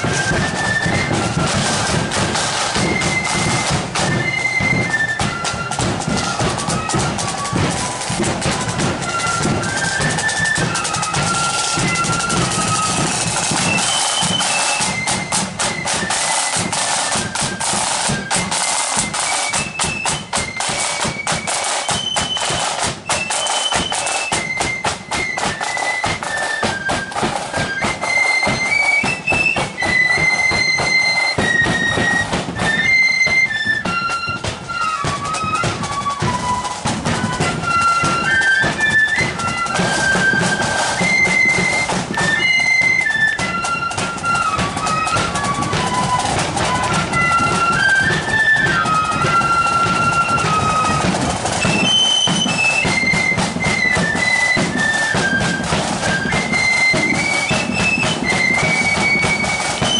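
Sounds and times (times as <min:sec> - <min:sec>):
flutes playing a melody: 0:00.0 - 0:59.9
rapid side-drum beats: 0:00.0 - 0:59.9.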